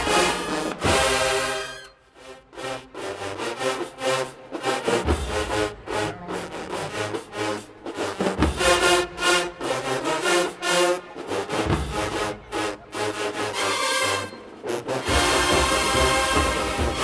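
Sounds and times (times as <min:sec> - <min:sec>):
marching band brass playing: 0:00.0 - 0:17.0.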